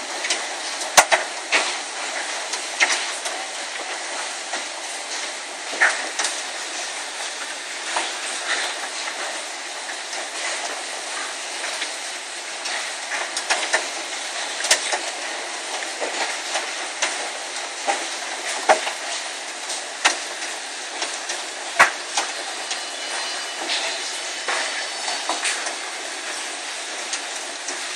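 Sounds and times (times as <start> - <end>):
hailstones cracking on hard surfaces: 0.0 - 27.9
roar of hail and rain: 0.0 - 27.9.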